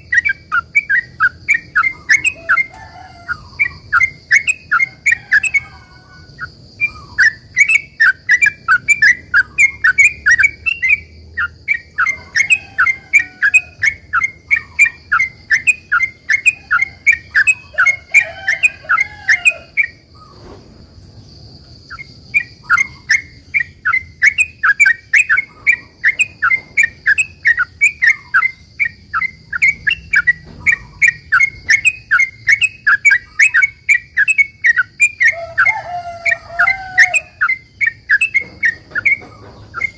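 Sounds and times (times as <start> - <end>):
bird chattering song: 0.0 - 20.5, 21.6 - 39.9.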